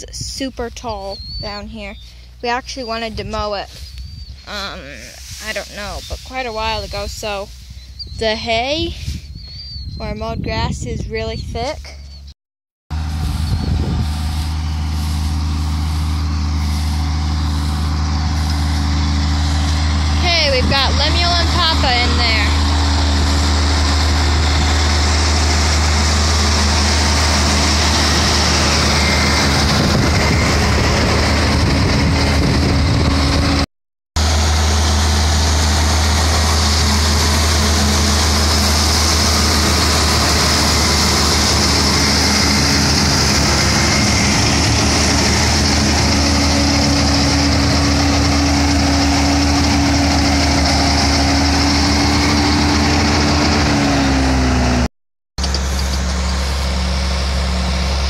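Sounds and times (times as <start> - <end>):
tractor diesel engine running: 0.0 - 12.3, 12.9 - 58.0
mower cutting hay: 0.4 - 9.2, 12.9 - 33.6, 34.2 - 58.0.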